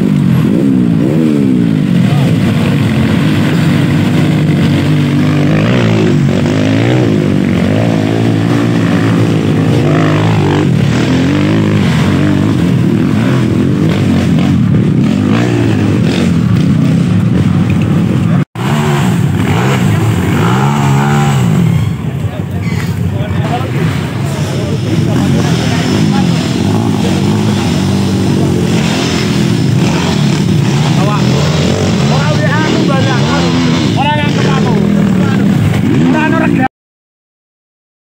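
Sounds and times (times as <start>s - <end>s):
dirt bike engines revving: 0.0s - 36.7s.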